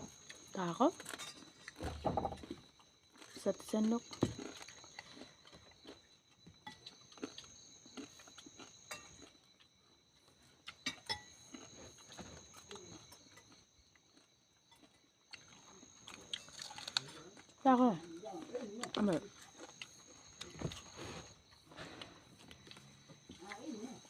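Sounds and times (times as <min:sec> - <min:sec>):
chewing: 0:00.1 - 0:24.0.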